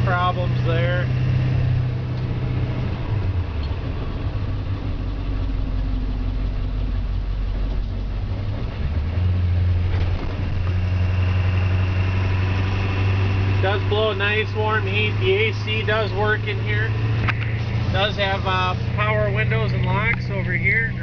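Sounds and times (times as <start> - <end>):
truck diesel engine from cab: 0.0 - 21.0.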